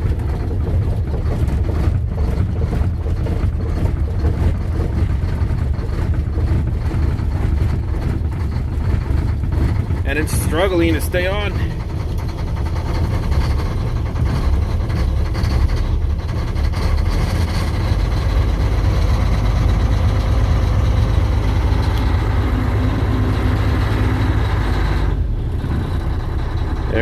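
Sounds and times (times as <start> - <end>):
diesel truck engine running rough: 0.0 - 27.0.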